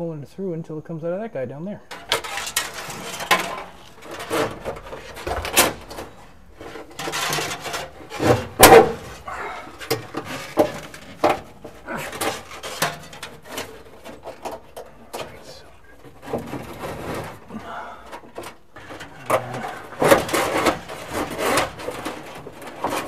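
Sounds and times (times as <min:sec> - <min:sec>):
wires rubbing and scraping: 0:01.9 - 0:23.0.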